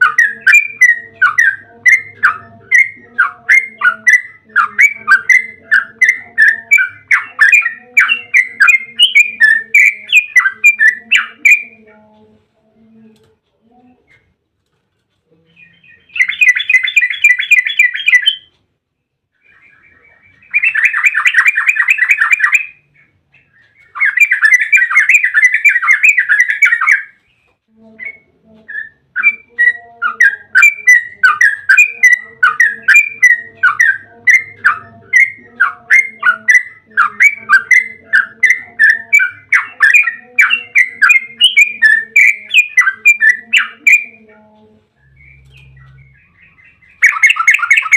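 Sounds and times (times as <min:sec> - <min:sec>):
bird chattering notes: 0:00.0 - 0:11.9, 0:15.4 - 0:18.5, 0:19.4 - 0:47.9
bulbul song trills: 0:00.0 - 0:14.3, 0:15.3 - 0:18.7, 0:19.3 - 0:47.9.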